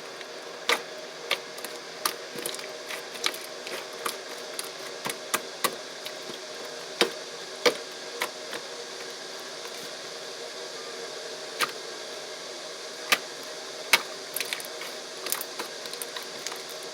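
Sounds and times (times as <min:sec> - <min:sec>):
steady background hiss: 0:00.0 - 0:16.9.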